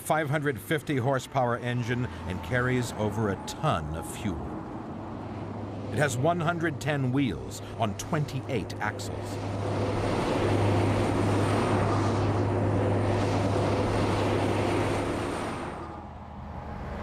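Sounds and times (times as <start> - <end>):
tyres rushing on road: 0.0 - 16.1
truck engine hum: 0.0 - 17.0.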